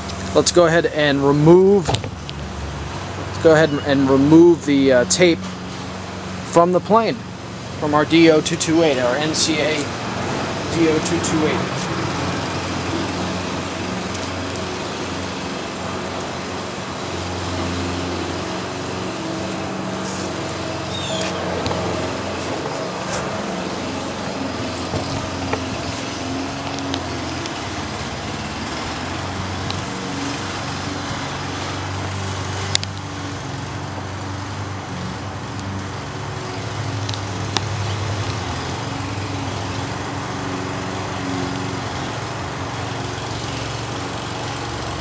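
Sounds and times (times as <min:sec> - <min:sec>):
low engine drone: 0:00.0 - 0:45.0.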